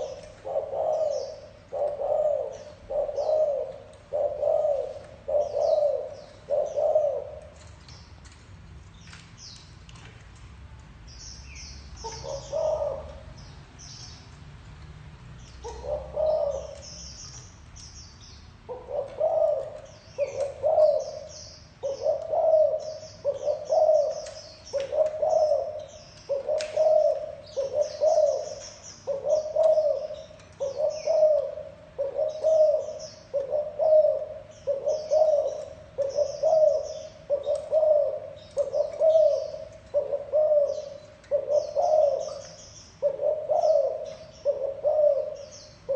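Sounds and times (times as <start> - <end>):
dove cooing: 0.0 - 7.8, 12.0 - 13.4, 15.4 - 17.4, 18.6 - 45.9
small birds chirping: 0.0 - 45.9.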